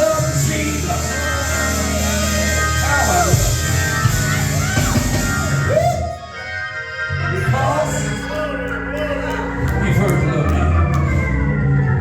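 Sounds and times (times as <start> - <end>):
held keyboard chords: 0.0 - 12.0.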